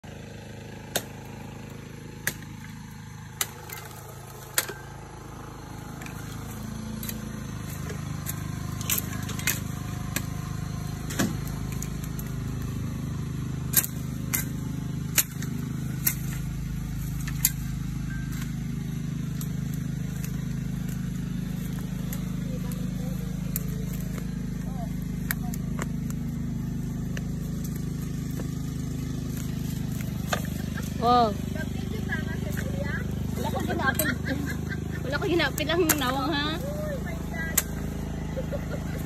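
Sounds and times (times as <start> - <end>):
steady low hum: 0.0 - 39.0
machete chopping stalks: 0.2 - 39.0.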